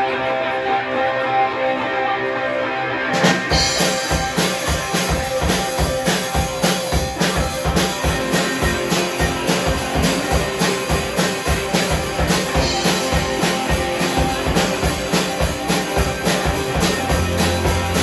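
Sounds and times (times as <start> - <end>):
bass guitar: 0.0 - 18.0
electric guitar chord: 0.0 - 18.0
drum kit beat: 3.1 - 18.0.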